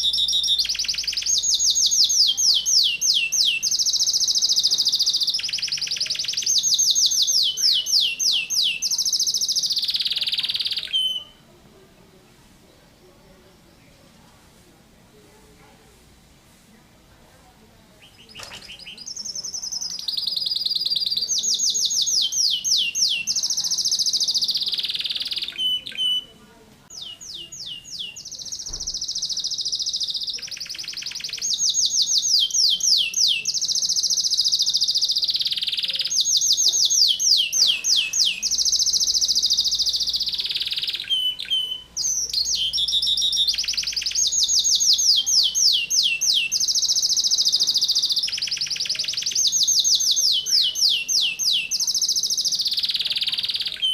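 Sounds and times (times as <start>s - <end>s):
canary singing trills: 0.0s - 11.6s, 17.8s - 53.9s.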